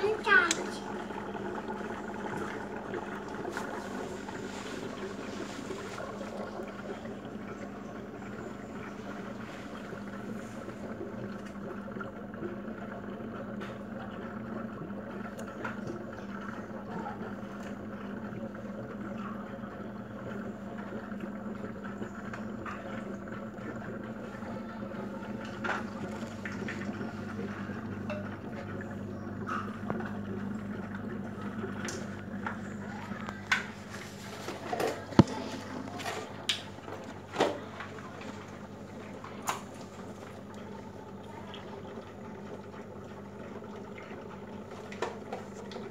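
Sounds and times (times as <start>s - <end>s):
aquarium air pump humming: 0.0s - 45.9s
water bubbling: 0.0s - 45.9s.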